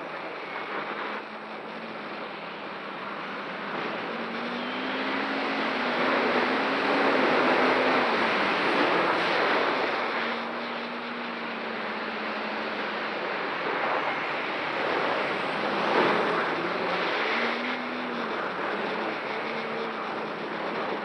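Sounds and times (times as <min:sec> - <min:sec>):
quadcopter propeller wind rush: 0:00.0 - 0:21.0.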